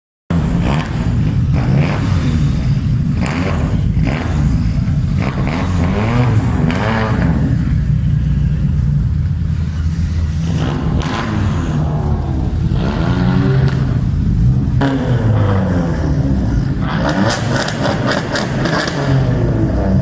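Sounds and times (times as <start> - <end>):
race car engine revving: 0.3 - 20.0.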